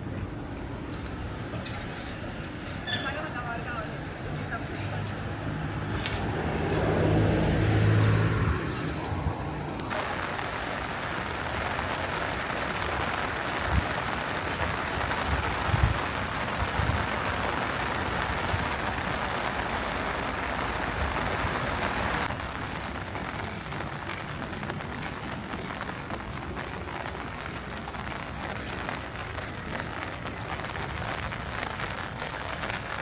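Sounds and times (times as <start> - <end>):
rain on hard surfaces: 0.0 - 33.0.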